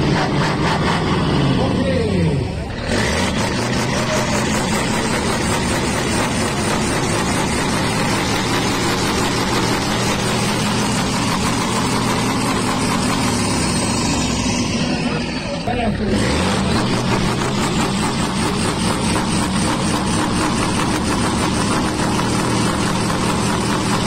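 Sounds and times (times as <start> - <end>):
truck diesel engine revving: 0.0 - 24.0.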